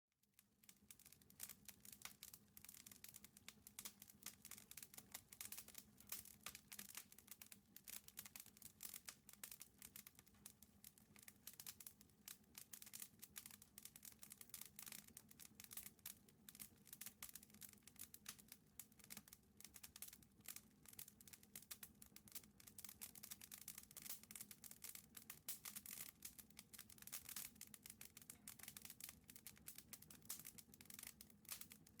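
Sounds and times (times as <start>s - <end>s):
wood fire crackling in a stove: 0.2s - 32.0s.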